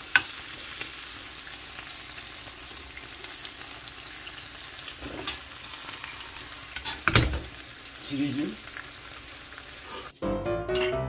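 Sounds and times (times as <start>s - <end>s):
food sizzling in a pan: 0.0s - 10.9s.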